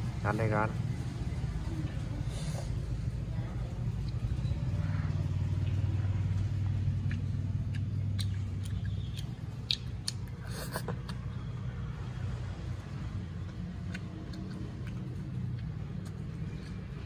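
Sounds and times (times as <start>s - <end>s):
child chewing: 1.9s - 17.0s.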